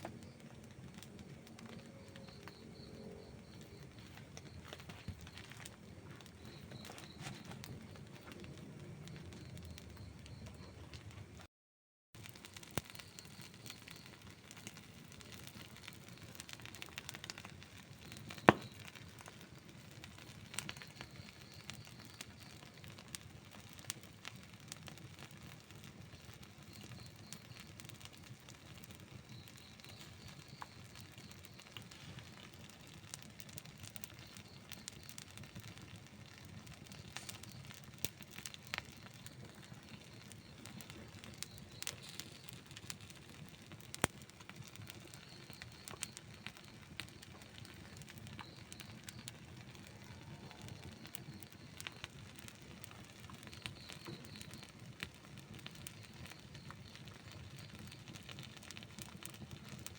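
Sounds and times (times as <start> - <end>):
burning wood crackling and popping: 0.0 - 11.5, 12.2 - 59.9
low rumble of flames: 0.0 - 11.5, 12.2 - 59.9.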